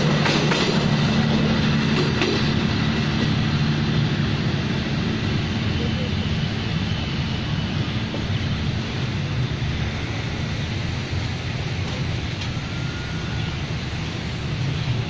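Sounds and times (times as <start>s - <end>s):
train rumbling down track: 0.0s - 15.0s.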